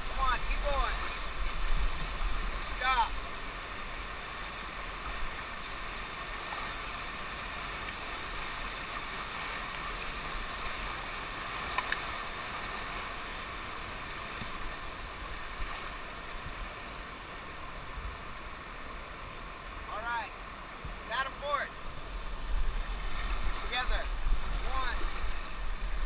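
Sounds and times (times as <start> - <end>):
rushing whitewater: 0.0 - 26.0.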